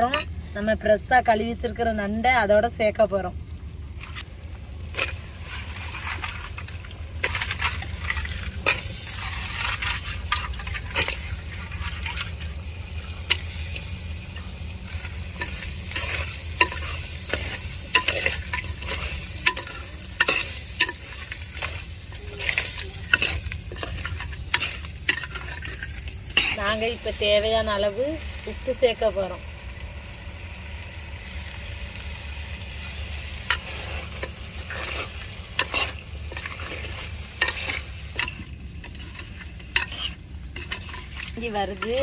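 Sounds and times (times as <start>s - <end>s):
crabs sizzling in a pan: 0.0s - 42.0s.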